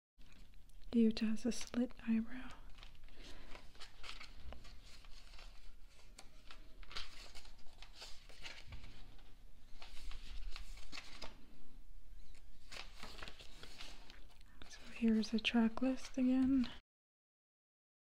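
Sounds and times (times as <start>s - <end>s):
book pages turning: 1.6s - 11.6s, 12.2s - 16.8s.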